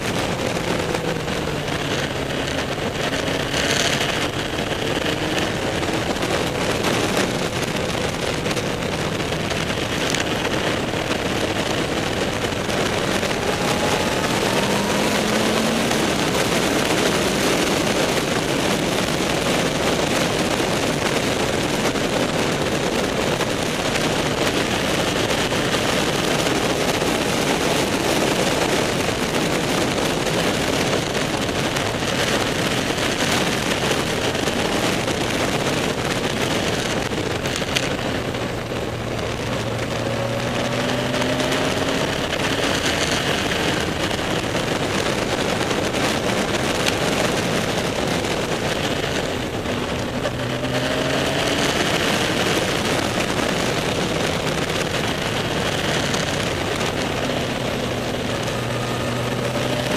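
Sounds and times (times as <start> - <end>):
motorcycle engine running: 0.0 - 59.9
wind rushing over camera: 0.0 - 59.9.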